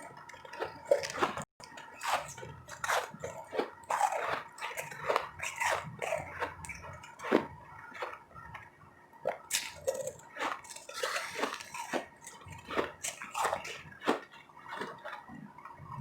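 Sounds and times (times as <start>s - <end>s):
chewing crunchy ice: 0.0s - 16.0s.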